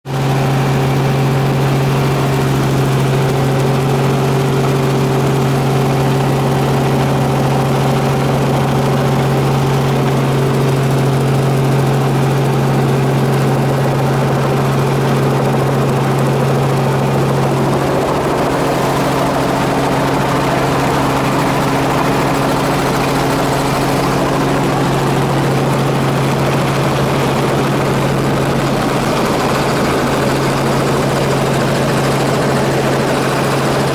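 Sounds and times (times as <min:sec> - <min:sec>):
helicopter drone from cabin: 0:00.1 - 0:33.9.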